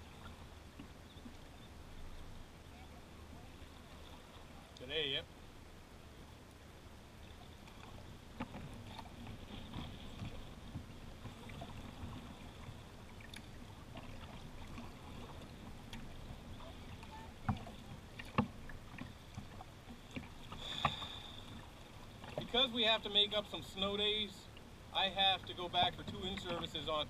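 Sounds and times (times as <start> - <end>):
water lapping against a kayak hull: 0.0 - 27.0.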